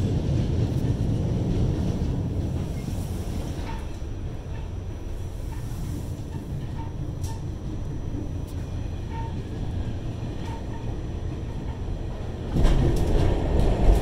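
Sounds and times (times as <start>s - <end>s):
rail clicks: 0.0s - 14.0s
subway train rumbling in tunnel: 0.0s - 14.0s.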